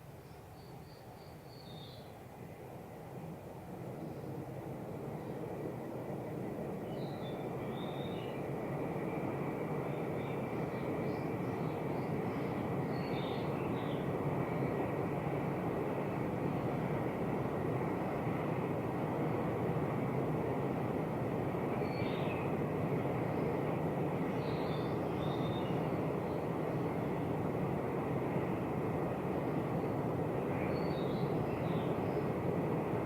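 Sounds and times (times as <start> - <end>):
distant train rumbling: 0.4 - 33.0.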